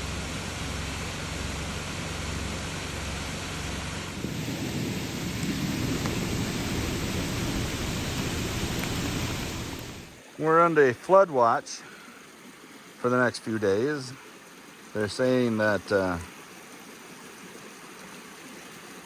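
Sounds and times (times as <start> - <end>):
flooding creek rushing: 0.0 - 19.0.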